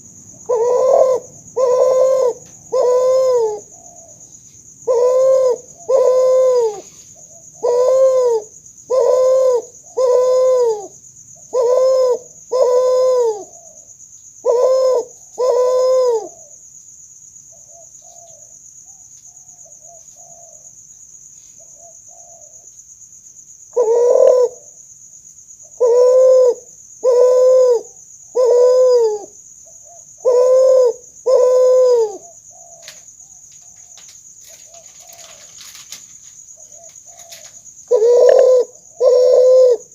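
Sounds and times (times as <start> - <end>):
dove cooing: 0.0 - 4.2, 4.8 - 16.6, 17.6 - 20.7, 23.7 - 24.8, 25.6 - 39.9.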